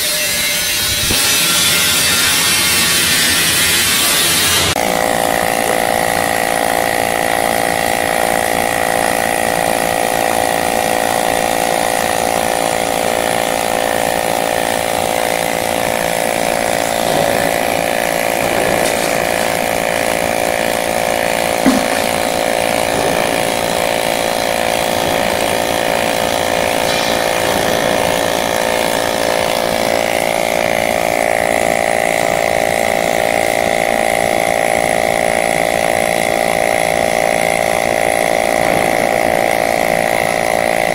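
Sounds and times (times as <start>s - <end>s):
welding arc buzzing: 0.0s - 40.9s.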